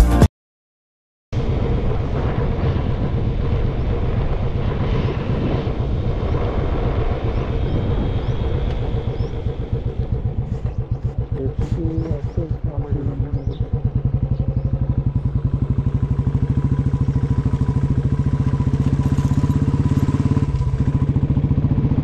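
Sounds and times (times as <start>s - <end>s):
motorcycle engine running: 1.4s - 22.0s.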